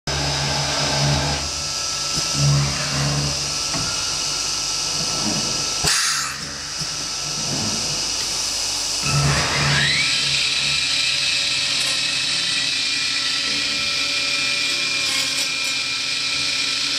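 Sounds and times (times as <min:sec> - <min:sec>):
machine hum and hiss: 0:00.1 - 0:16.9.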